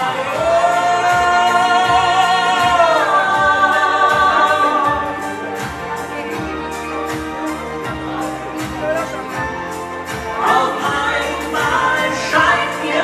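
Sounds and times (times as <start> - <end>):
instrumental backing track: 0.0 - 13.0.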